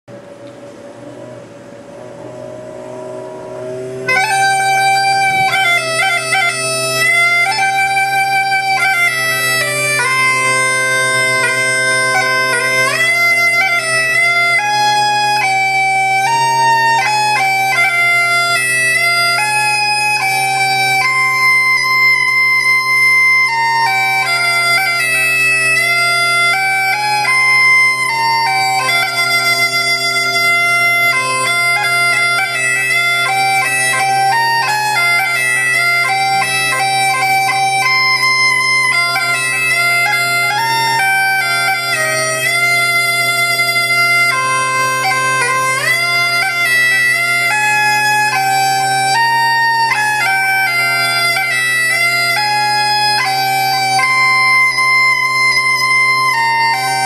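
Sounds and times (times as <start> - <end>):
bagpipe drone: 0.0 - 57.0
bagpipe chanter melody: 1.6 - 57.0.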